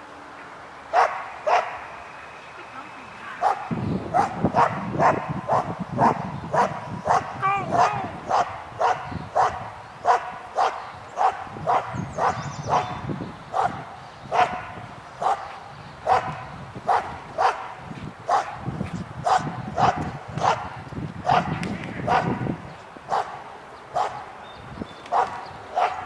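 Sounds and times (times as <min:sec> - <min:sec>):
dog barking: 0:00.9 - 0:01.9, 0:03.4 - 0:18.6, 0:19.2 - 0:22.5, 0:23.1 - 0:24.3, 0:25.1 - 0:26.0.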